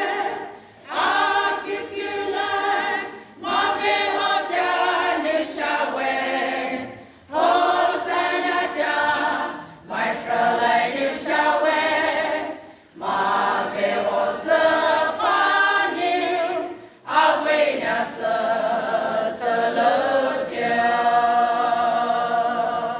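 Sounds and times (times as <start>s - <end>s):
women's choir singing unaccompanied: 0.0s - 22.9s.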